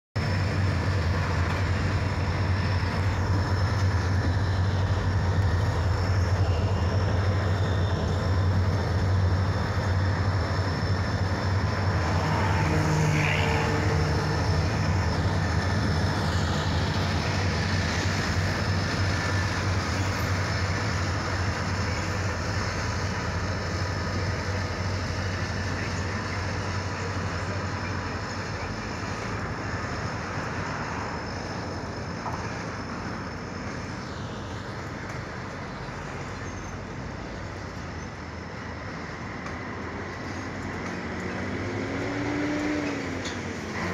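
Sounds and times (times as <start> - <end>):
diesel locomotive engines droning: 0.0 - 43.9
train rolling noise: 0.2 - 43.9.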